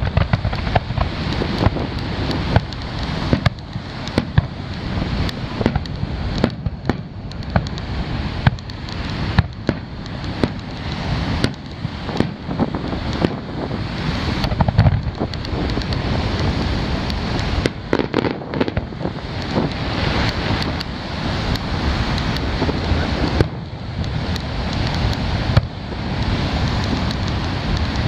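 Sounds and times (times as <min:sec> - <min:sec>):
fireworks bangs: 0:00.0 - 0:28.0
low rumble: 0:00.0 - 0:28.0.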